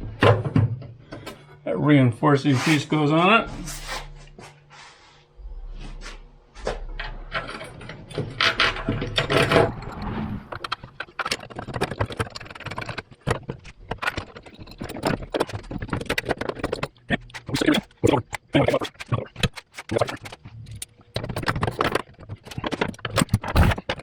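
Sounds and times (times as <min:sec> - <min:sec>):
metal parts scraping and clinking: 0:02.6 - 0:04.6, 0:06.6 - 0:24.0.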